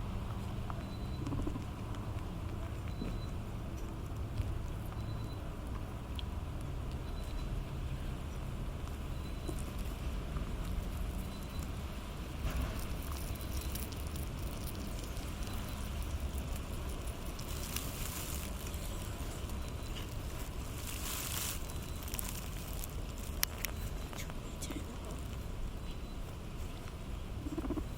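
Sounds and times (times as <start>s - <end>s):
guinea pigs chewing and rustling: 0.0s - 27.9s.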